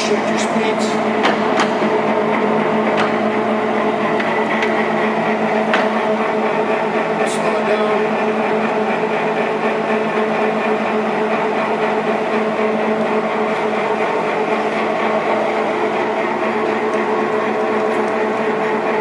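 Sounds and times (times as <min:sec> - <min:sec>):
lathe whirring: 0:00.0 - 0:19.0.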